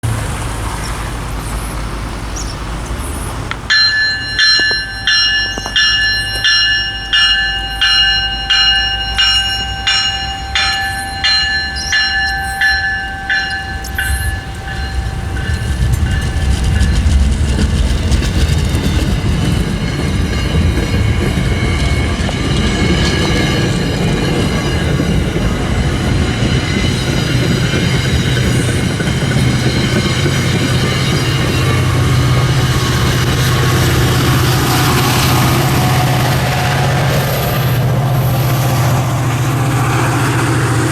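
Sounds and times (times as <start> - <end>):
train rumble passing: 0.0 - 40.9
crossing bell ringing: 2.2 - 40.9.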